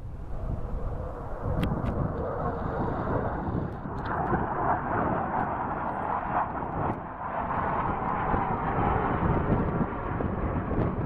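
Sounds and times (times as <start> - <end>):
jet engine roar overhead: 0.0 - 11.0.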